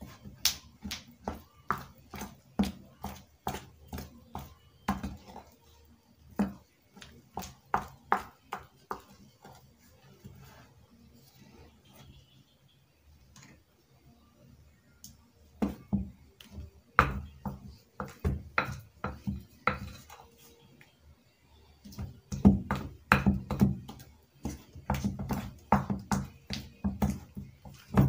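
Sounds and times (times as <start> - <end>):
wooden spoon beating batter in bowl: 0.0 - 12.1, 15.1 - 20.9, 21.8 - 28.0.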